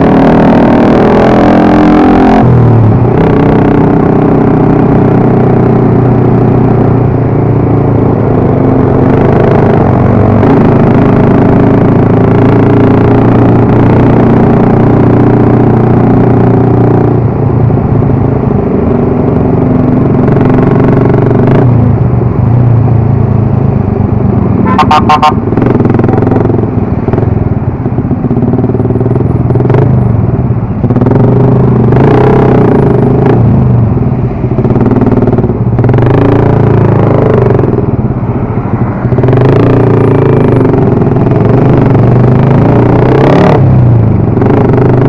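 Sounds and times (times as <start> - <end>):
motorcycle engine running: 2.8 - 43.0.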